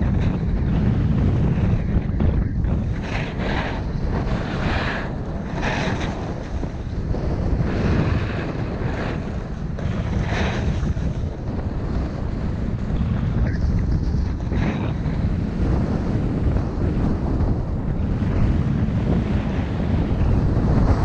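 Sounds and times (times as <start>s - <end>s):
snowboard edge scraping snow: 0.0s - 17.5s
wind buffeting microphone: 0.0s - 21.0s.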